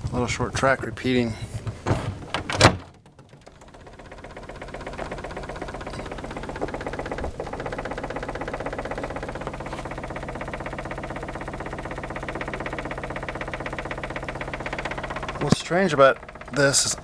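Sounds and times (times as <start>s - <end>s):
wooden door rattling in frame: 0.6s - 17.0s.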